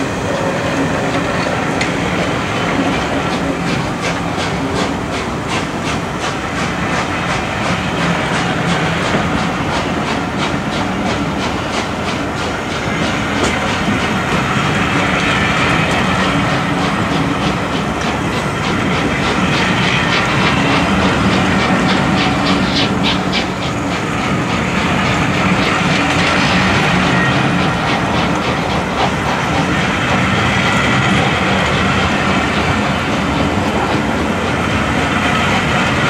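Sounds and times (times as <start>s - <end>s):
train coaches rhythmic beat: 0.0s - 36.0s
train rumble: 0.0s - 36.0s.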